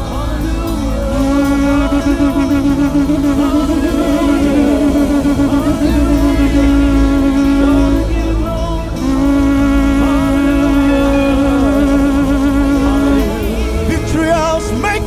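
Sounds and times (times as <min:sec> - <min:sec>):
gospel worship band: 0:00.0 - 0:15.0
long held note: 0:00.0 - 0:15.0.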